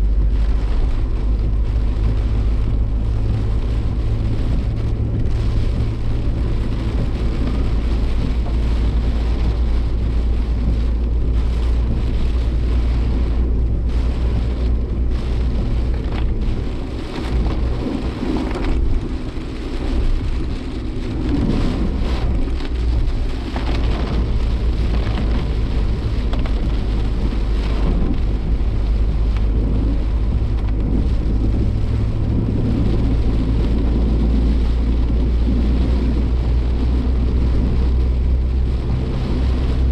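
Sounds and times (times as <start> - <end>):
car engine and road drone: 0.0 - 39.9
rain beating on car body: 0.0 - 39.9.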